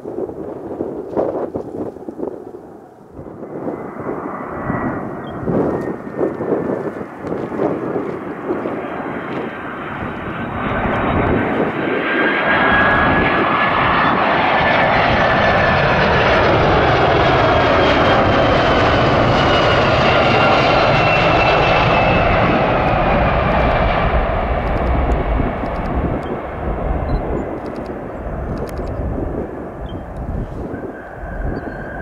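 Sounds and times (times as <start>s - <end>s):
jet engines passing: 0.0s - 32.0s.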